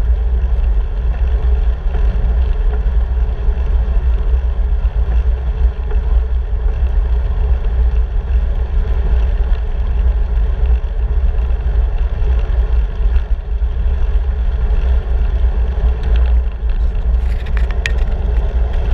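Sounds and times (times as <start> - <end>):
road noise: 0.0 - 18.9
wind buffeting microphone: 0.0 - 18.9.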